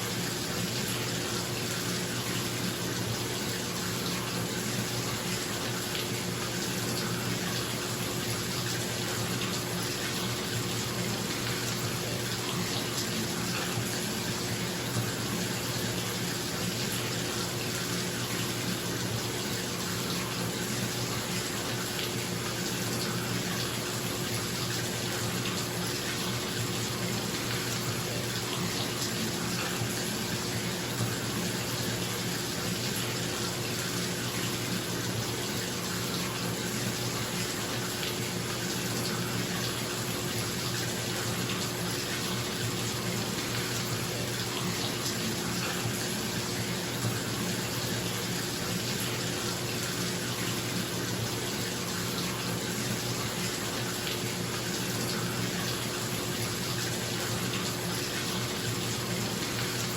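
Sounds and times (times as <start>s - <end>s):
tap water running into bathtub: 0.0s - 59.9s.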